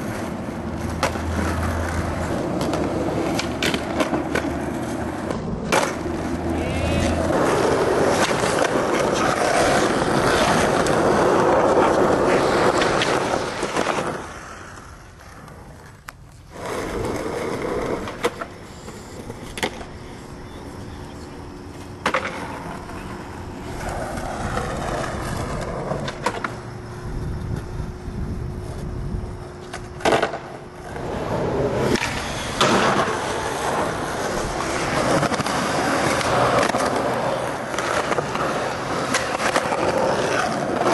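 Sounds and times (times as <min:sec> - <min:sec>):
skateboard tail clacks: 0:00.0 - 0:28.0, 0:28.6 - 0:40.9
skateboard wheels rolling on asphalt: 0:00.0 - 0:40.9.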